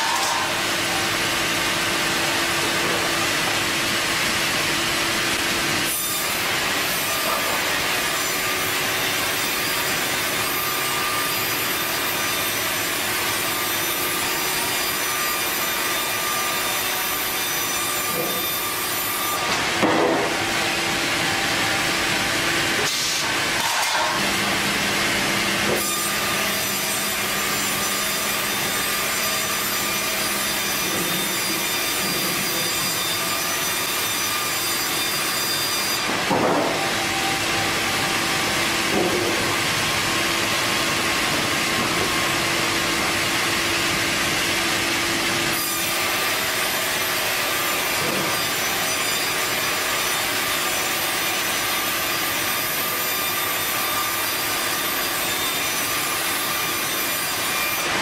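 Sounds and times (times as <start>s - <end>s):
saw cutting through log: 0.0s - 58.0s.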